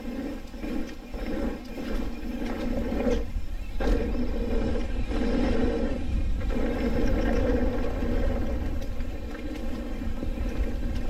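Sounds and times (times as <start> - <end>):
bike tyres rumbling on dirt: 0.0 - 11.0
wind rushing over microphone: 0.0 - 11.0.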